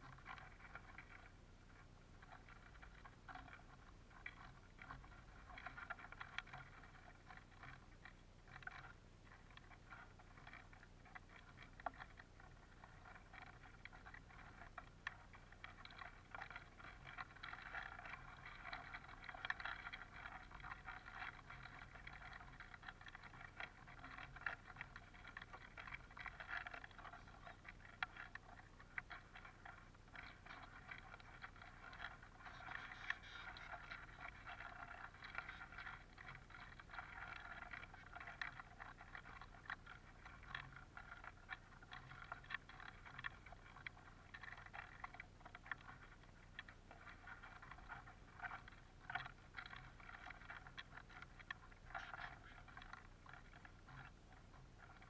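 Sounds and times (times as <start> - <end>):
birds pecking seeds on wooden tray: 0.0 - 55.0.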